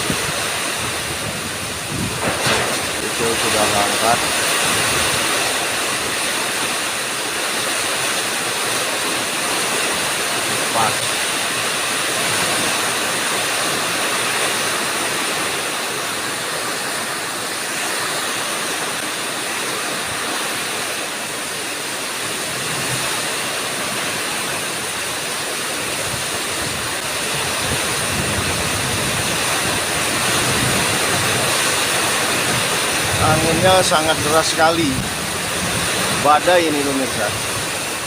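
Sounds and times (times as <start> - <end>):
strong storm wind: 0.0 - 21.1, 22.1 - 38.0
heavy rain: 0.0 - 38.0.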